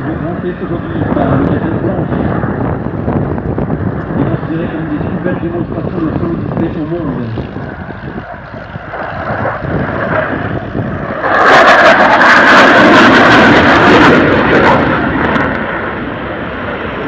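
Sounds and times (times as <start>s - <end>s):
jet engine passing: 0.0s - 17.0s.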